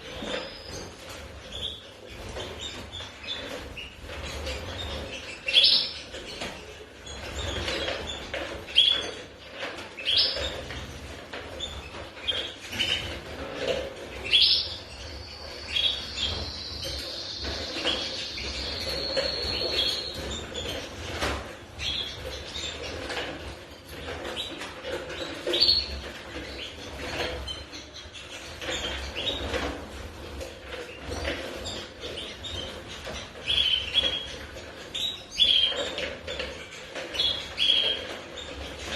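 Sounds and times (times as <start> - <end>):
canaries chirping: 0.0 - 38.9.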